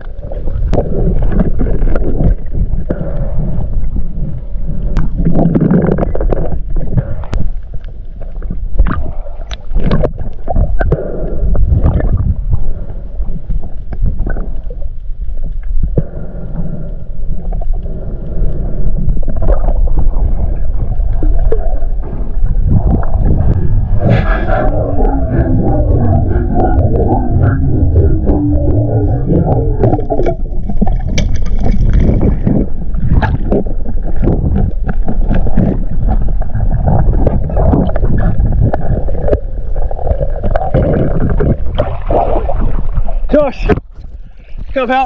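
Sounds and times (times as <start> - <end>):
water sloshing and gurgling: 0.0 - 45.0.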